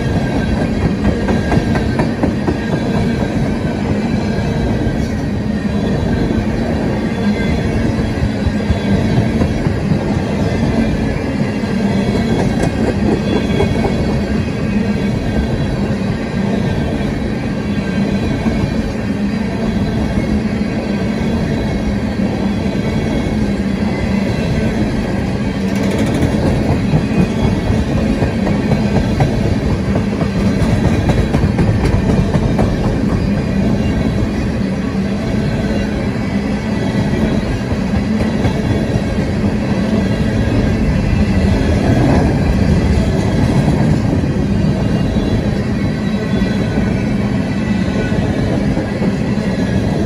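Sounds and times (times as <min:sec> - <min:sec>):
freight train wheels on rails: 0:00.0 - 0:50.0.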